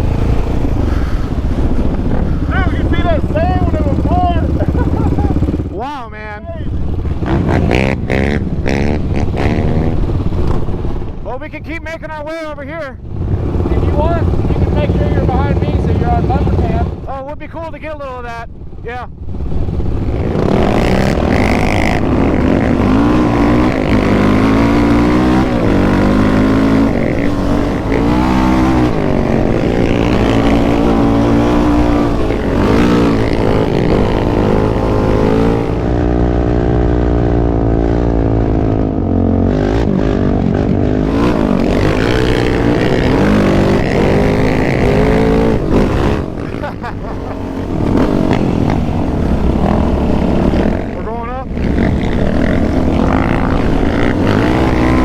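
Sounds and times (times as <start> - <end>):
quad engine revving: 0.0 - 11.1, 13.0 - 17.2, 19.3 - 55.0.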